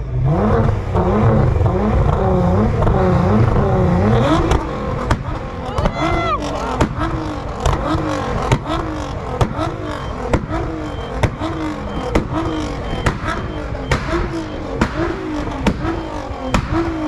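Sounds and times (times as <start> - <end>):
car engine revving: 0.0 - 17.0
exhaust cracks: 0.3 - 17.0.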